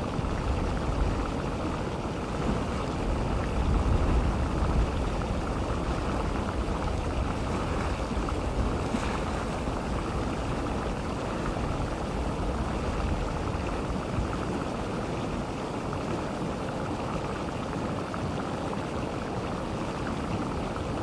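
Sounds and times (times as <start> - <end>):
geothermal vent bubbling: 0.0 - 21.0.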